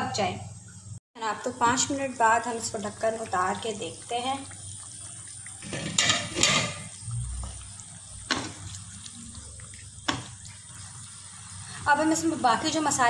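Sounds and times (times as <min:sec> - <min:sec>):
chicken bubbling in a pan: 0:00.5 - 0:13.0.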